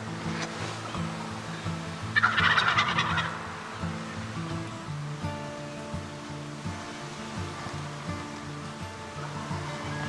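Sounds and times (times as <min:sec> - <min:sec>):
plucked notes music: 0:00.0 - 0:10.0
steady hiss: 0:00.0 - 0:10.0.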